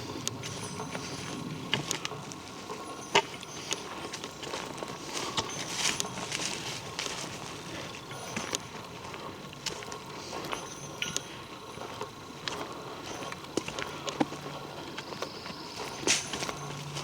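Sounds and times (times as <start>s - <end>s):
footsteps on leaves and twigs: 0.0s - 17.0s.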